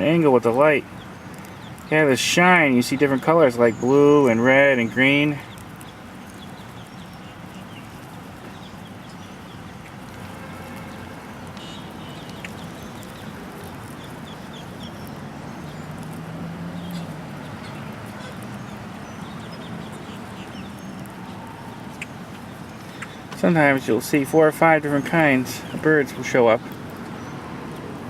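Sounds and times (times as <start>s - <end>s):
birds chirping and chattering: 0.0s - 27.9s.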